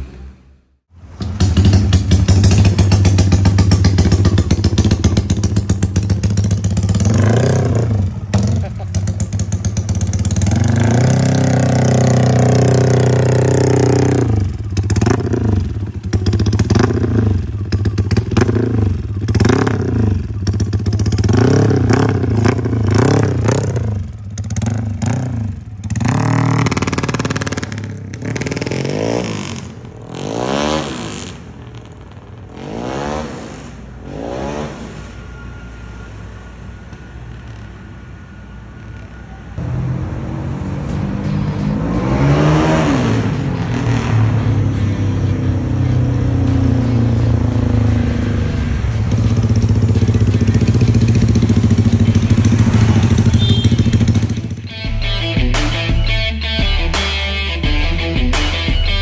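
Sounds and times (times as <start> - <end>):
motorcycle engine revving: 0.0 - 35.4, 39.6 - 56.1.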